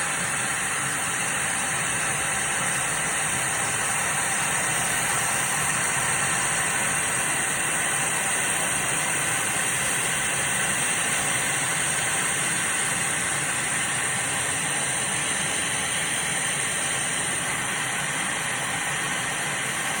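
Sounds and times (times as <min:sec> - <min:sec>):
laser cutting machine hissing: 0:00.0 - 0:20.0.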